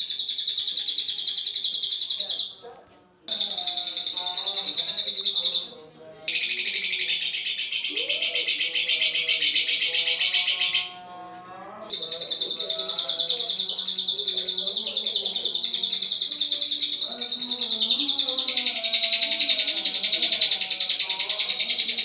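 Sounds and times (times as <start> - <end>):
lovebird chattering trill: 0.0 - 2.6, 3.3 - 5.7, 6.3 - 11.0, 11.9 - 22.0.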